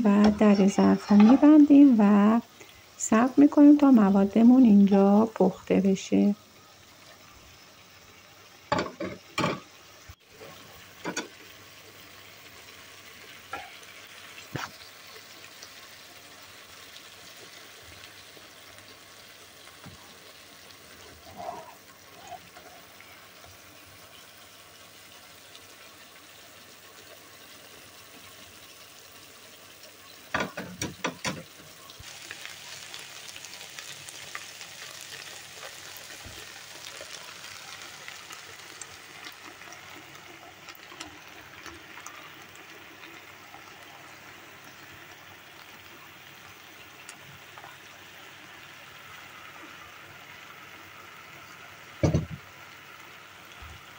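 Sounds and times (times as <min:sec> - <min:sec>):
food sizzling in a pan: 0:00.0 - 0:53.9.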